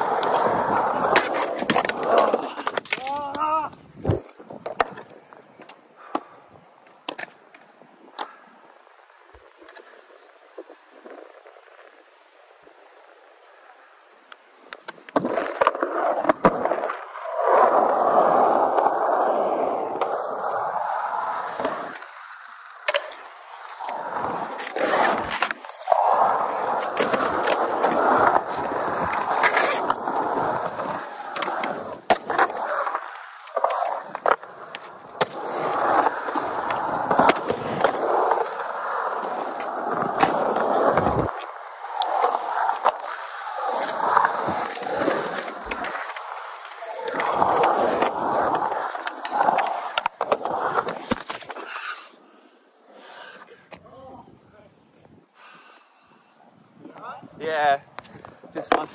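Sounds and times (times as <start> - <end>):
skateboard wheels rolling on concrete: 0.0 - 58.9.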